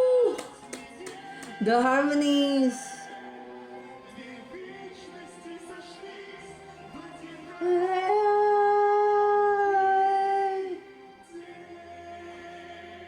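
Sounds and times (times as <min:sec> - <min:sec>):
soft backing music: 0:00.0 - 0:13.0.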